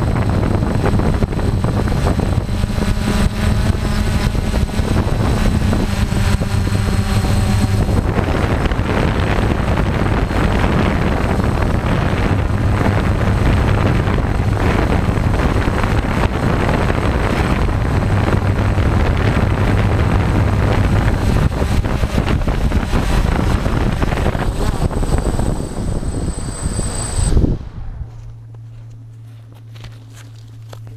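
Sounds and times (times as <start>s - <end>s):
wind buffeting microphone: 0.0s - 29.8s
drone motors buzzing: 0.0s - 30.9s.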